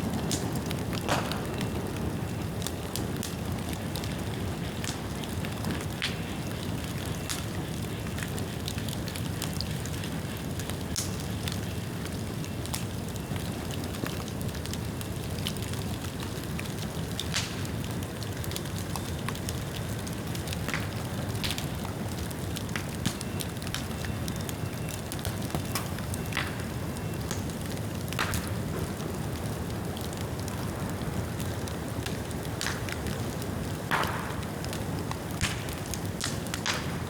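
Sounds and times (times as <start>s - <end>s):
bamboo crackling and popping: 0.0s - 37.0s
bonfire flames rushing: 0.0s - 37.0s.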